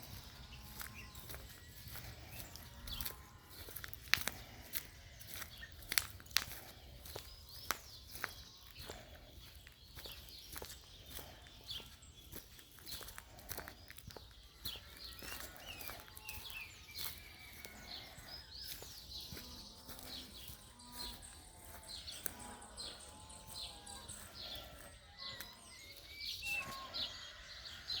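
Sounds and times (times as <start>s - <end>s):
birds chirping and calling: 0.0s - 28.0s.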